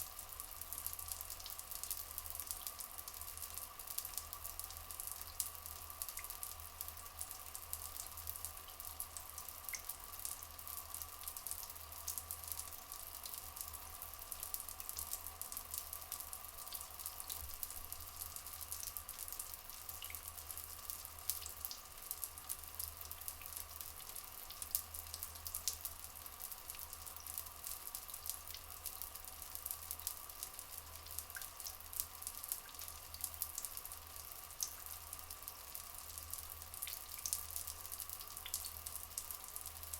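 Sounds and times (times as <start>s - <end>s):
fine dripping and crackling: 0.0s - 39.9s.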